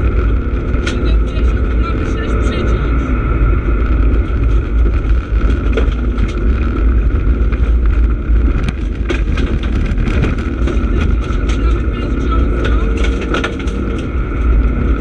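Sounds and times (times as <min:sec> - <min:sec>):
gravel striking car: 0:00.0 - 0:02.9, 0:03.6 - 0:15.0
car engine and road rumble: 0:00.0 - 0:15.0.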